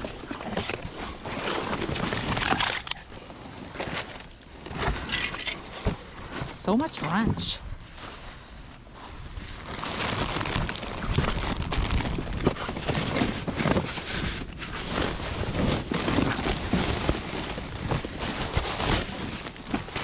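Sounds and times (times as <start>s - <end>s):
trash bags and boxes rustling: 0.0s - 20.0s.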